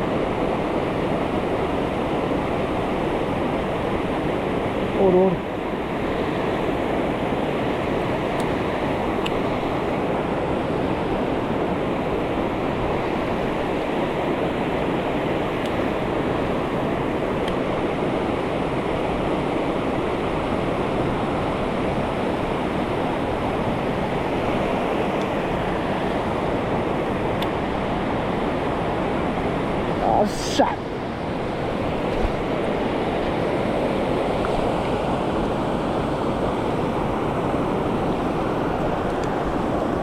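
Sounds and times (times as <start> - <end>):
mountain stream rushing: 0.0 - 40.0.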